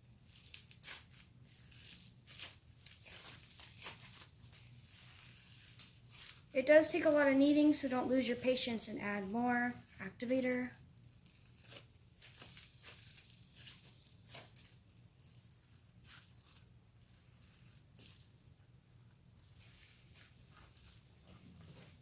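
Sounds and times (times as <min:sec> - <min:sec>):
slime crackling and squishing: 0:00.0 - 0:22.0.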